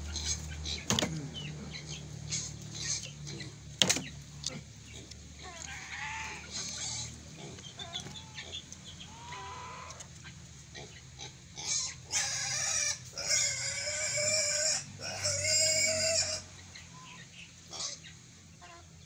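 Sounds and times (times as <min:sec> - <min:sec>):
farm animals calling: 0:00.0 - 0:19.0.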